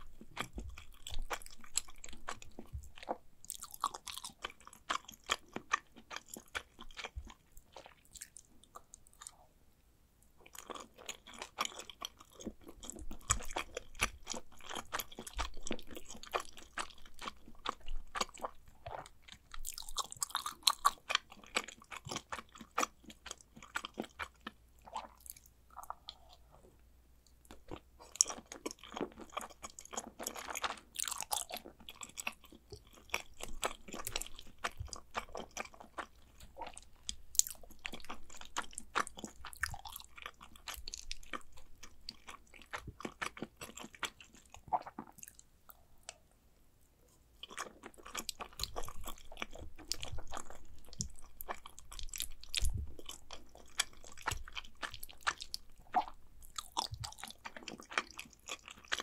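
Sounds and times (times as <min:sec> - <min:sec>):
wet chewing mouth sounds: 0:00.0 - 0:09.4, 0:10.4 - 0:26.6, 0:27.5 - 0:46.2, 0:47.4 - 0:59.0.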